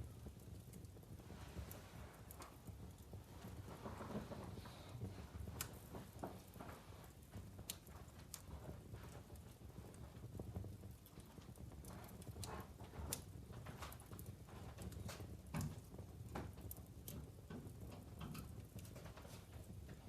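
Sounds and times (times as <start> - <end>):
fireplace logs crackling: 0.0 - 20.0.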